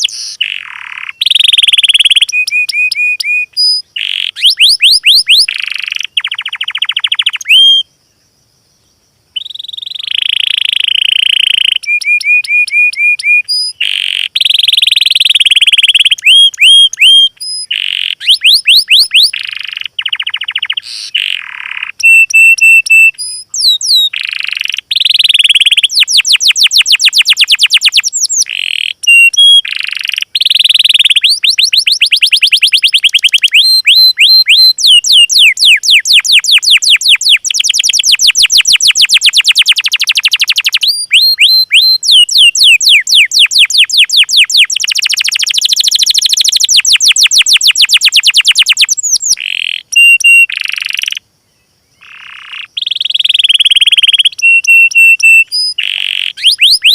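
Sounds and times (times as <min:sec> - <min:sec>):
songbird singing trills: 0:00.0 - 0:56.9.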